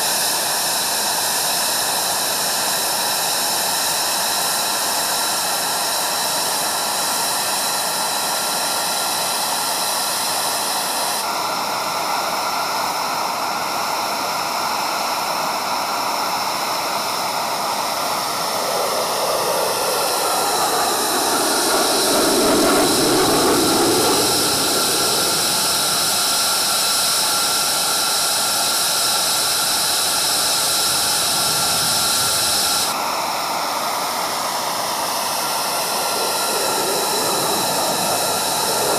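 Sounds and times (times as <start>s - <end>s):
jet engine whine in flight: 0.0s - 38.9s.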